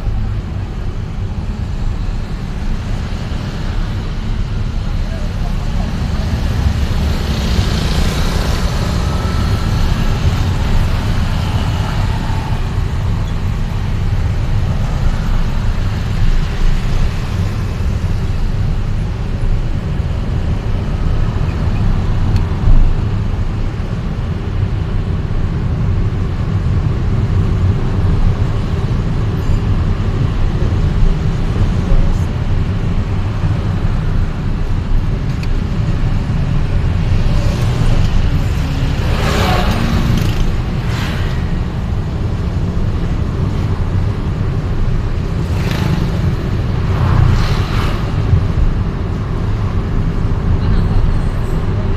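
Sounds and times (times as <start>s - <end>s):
traffic noise: 0.0s - 51.9s
vehicle rumbling: 0.0s - 51.9s.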